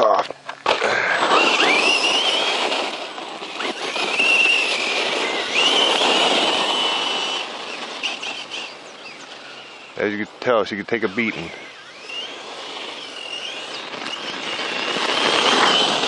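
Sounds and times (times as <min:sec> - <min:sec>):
tyres churning wet dirt: 0:00.0 - 0:16.0
electric motor whining: 0:00.6 - 0:16.0.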